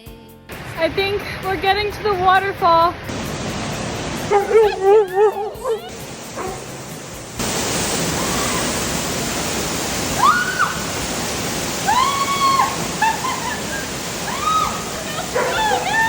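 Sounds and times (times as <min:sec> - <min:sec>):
waterfall rushing: 0:00.5 - 0:16.0.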